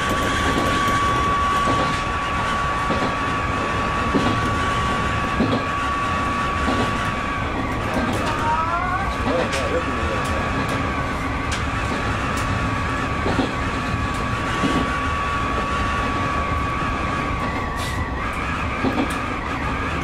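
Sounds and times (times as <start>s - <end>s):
rail clicks: 0.0s - 20.0s
train wheel and running noise: 0.0s - 20.0s.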